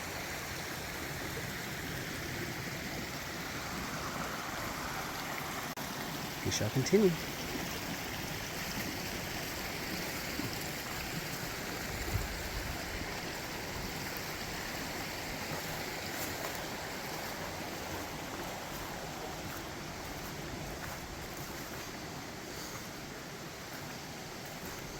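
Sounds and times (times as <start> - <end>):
creek water rushing over rocks: 0.0 - 24.9.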